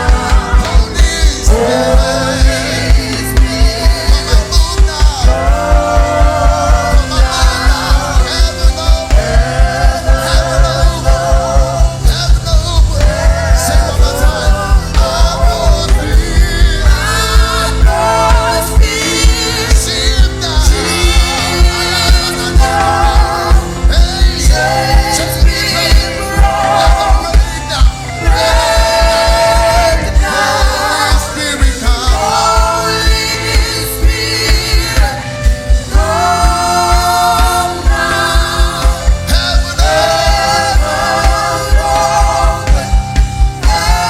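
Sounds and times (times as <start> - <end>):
band playing worship music: 0.0 - 44.0
fast bass drum beat: 0.0 - 44.0
person singing: 0.0 - 44.0.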